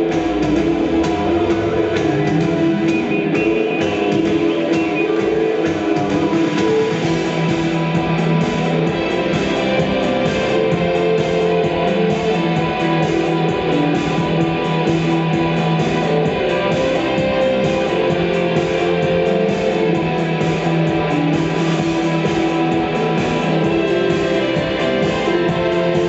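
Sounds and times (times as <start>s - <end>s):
instrumental guitar band music: 0.0s - 26.0s.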